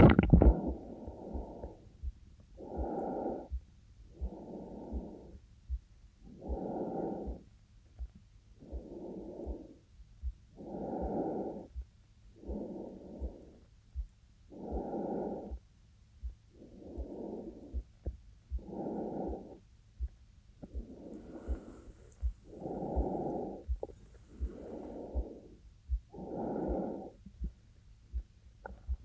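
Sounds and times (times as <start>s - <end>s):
heartbeat thumping: 0.0s - 29.0s
woman breathing slowly: 0.4s - 15.6s, 16.2s - 29.0s.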